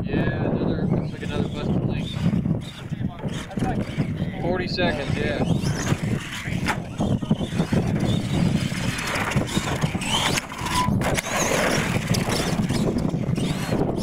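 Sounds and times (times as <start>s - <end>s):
toy truck motor running: 0.8s - 14.0s
tyres on loose dirt: 1.0s - 14.0s.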